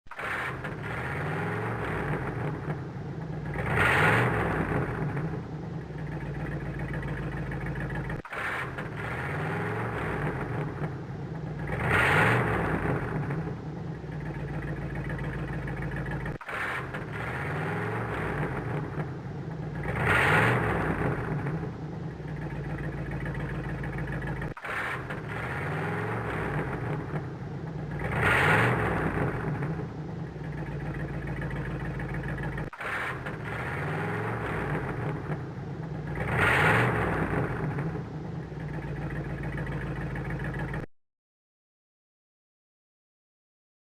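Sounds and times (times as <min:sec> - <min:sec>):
car engine revving: 0:00.1 - 0:40.9.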